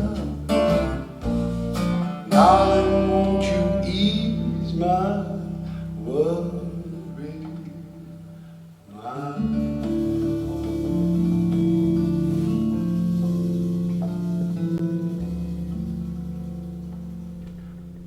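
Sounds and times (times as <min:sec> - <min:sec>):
bass line: 0:00.0 - 0:08.5, 0:09.4 - 0:18.0
acoustic guitar strumming: 0:00.0 - 0:18.0.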